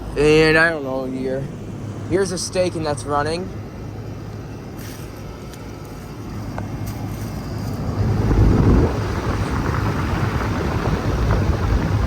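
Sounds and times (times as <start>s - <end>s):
air conditioner fan humming: 0.0s - 12.0s.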